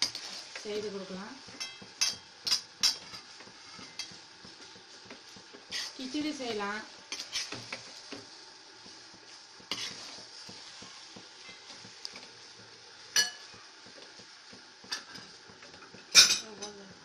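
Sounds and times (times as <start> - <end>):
spatula scraping rice in a pan: 0.0 - 16.2.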